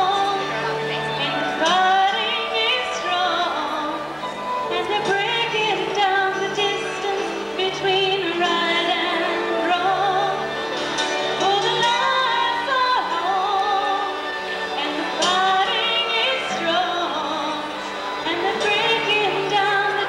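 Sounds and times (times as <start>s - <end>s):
woman singing into microphone: 0.0s - 10.6s, 11.3s - 20.0s
instrumental accompaniment: 0.0s - 20.0s.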